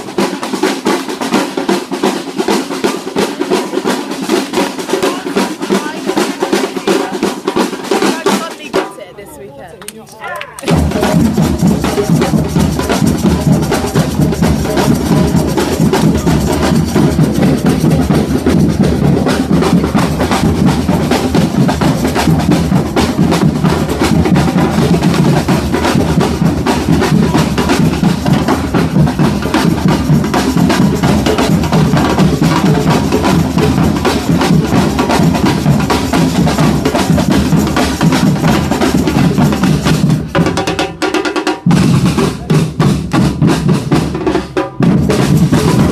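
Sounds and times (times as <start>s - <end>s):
samba drums playing: 0.0s - 45.9s.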